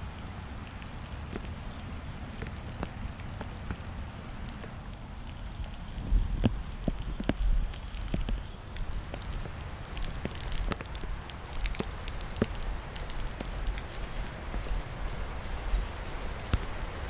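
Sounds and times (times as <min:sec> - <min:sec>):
raindrop clicks: 0:00.0 - 0:17.0
steady rain: 0:00.0 - 0:17.0.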